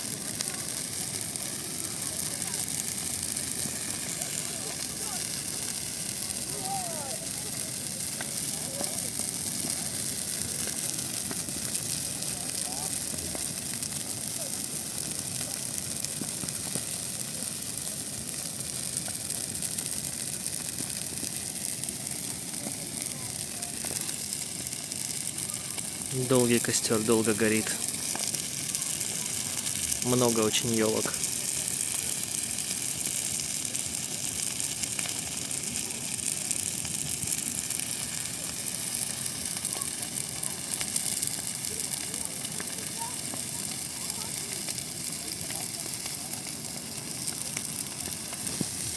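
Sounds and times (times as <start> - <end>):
bonfire hissing and crackling: 0.0 - 48.9
faint fire pops: 0.0 - 48.9.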